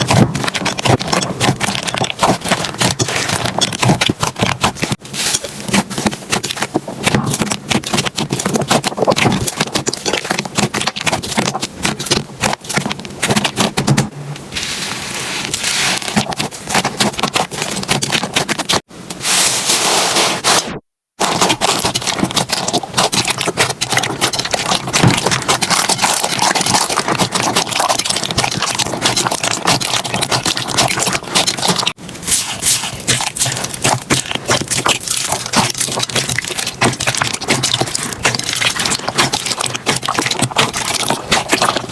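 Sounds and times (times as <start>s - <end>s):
slime crackling and popping: 0.0s - 14.0s, 15.3s - 18.9s, 21.1s - 41.9s.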